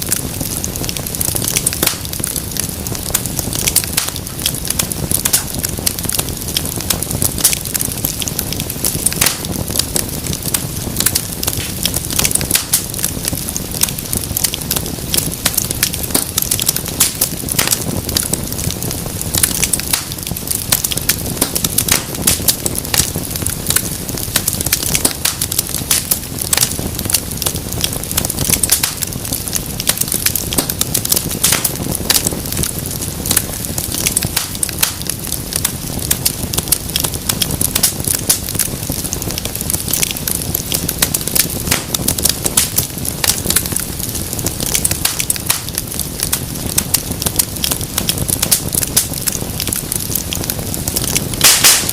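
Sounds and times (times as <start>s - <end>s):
fireplace fire crackling: 0.0s - 51.9s
low rumble of flames: 0.0s - 51.9s.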